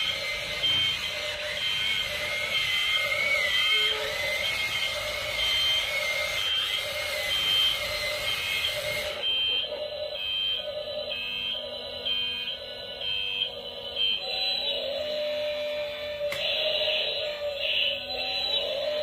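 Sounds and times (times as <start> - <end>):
toy two-tone warning beeps: 0.0 - 19.0.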